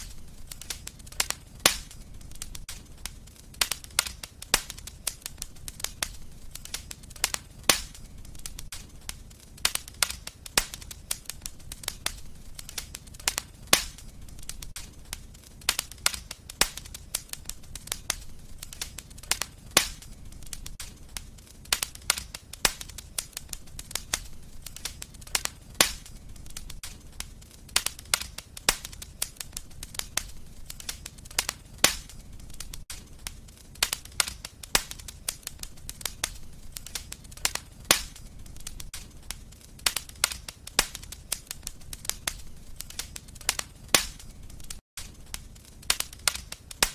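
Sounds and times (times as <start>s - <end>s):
low fire rumble: 0.0s - 46.9s
wood fire crackling and popping: 0.0s - 46.9s.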